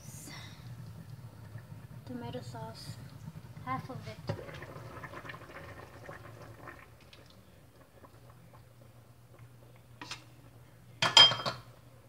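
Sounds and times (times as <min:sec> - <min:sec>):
food bubbling in a pan: 0:00.0 - 0:11.0
low steady hum: 0:00.0 - 0:12.0.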